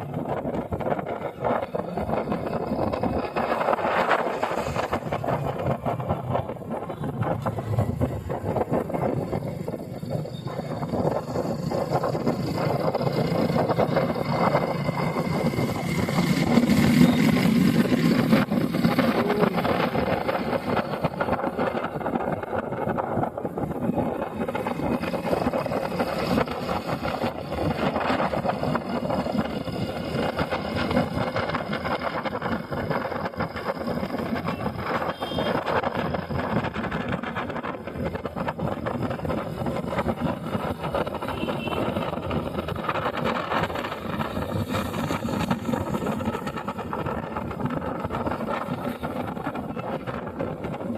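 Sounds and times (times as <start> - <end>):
motorcycle engine running: 0.0 - 50.9
road noise: 0.0 - 50.9.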